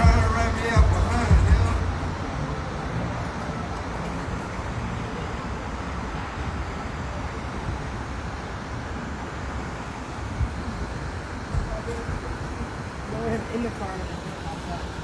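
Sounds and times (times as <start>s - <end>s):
traffic rumble and hiss: 0.0s - 15.0s.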